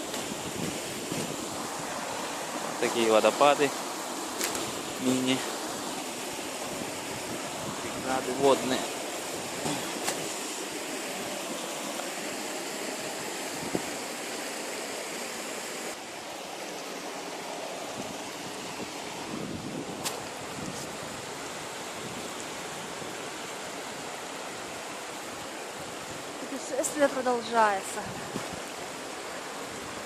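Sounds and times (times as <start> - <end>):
river water pouring over cascades: 0.0 - 30.0.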